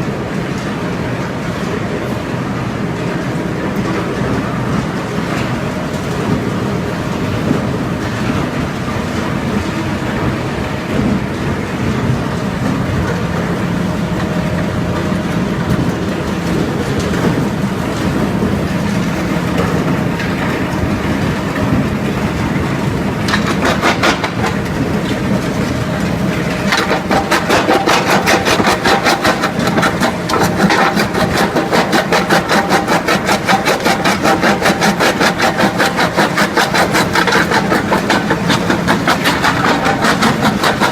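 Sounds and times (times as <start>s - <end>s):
grinding mill machinery humming: 0.0s - 40.9s
fast even mechanical pulsing: 7.0s - 40.9s.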